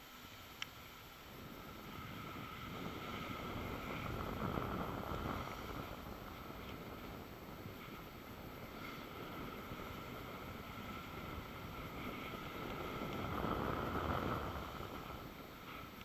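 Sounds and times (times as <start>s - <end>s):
skis scraping over snow: 0.8s - 16.0s
wind on microphone: 1.2s - 16.0s.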